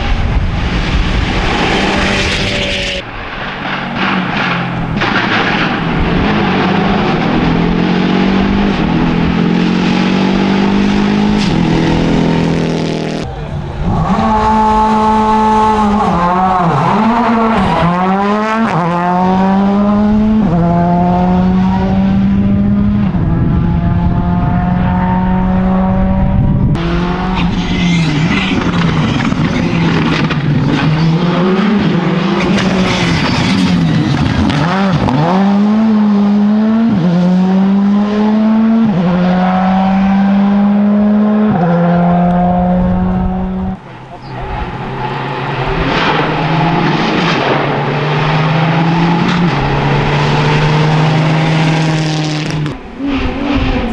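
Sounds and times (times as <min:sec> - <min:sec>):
rally car engine revving through gears: 0:04.0 - 0:13.2, 0:13.8 - 0:53.9.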